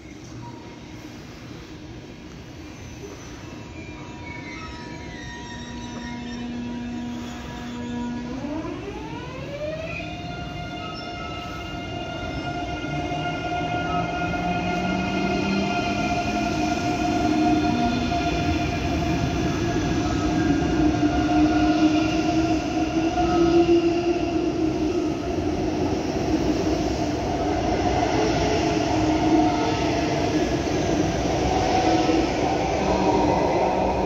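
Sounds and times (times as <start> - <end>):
electric train rumbling and whining: 0.0 - 34.0.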